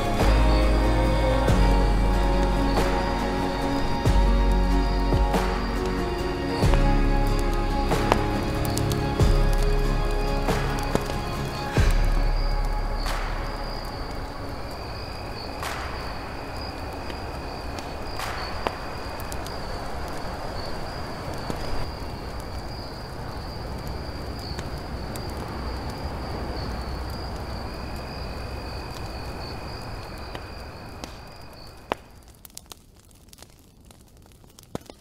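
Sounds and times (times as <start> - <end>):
background hiss: 0.0 - 35.0
night insects trilling: 0.0 - 35.0.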